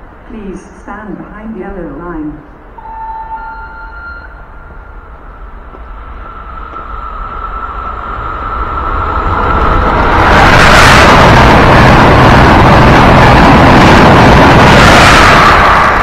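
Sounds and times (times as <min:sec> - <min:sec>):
passenger train passing: 0:00.0 - 0:16.0.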